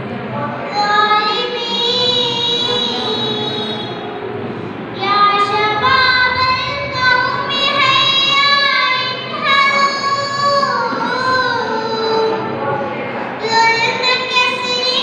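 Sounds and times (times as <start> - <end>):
girl chanting melodically: 0.4 - 4.1, 5.0 - 15.0.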